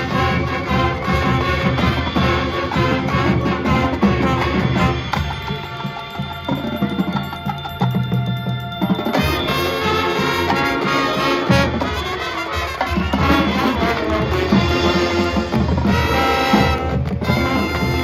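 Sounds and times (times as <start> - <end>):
loud brass: 0.0 - 6.4, 9.1 - 18.0
drums and percussion: 0.0 - 18.0
marching band playing: 0.0 - 18.0.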